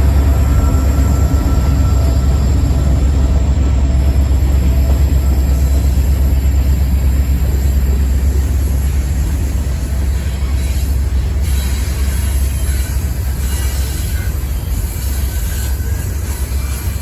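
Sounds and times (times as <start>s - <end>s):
freight train cars rumbling: 0.0s - 17.0s.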